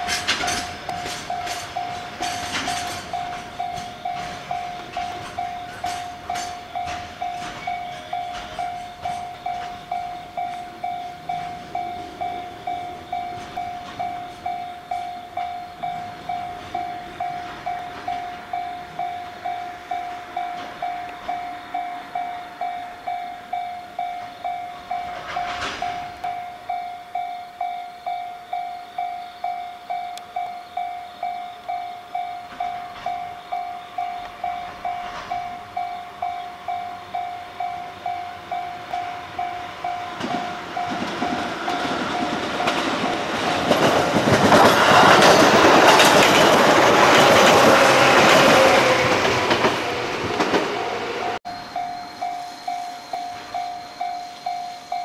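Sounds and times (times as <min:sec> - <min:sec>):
level crossing warning bell: 0:00.0 - 0:50.4, 0:51.3 - 0:55.0
passing train wagons: 0:00.0 - 0:55.0.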